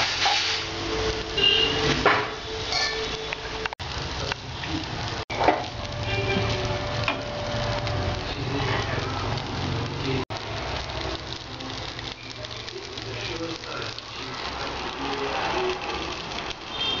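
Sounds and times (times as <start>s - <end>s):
noodles sizzling in oil: 0.0s - 17.0s.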